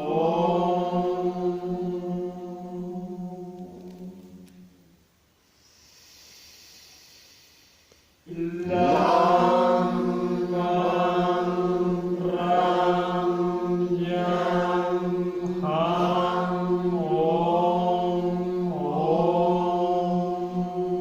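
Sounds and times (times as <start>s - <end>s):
group chanting: 0.0s - 4.4s, 8.3s - 21.0s.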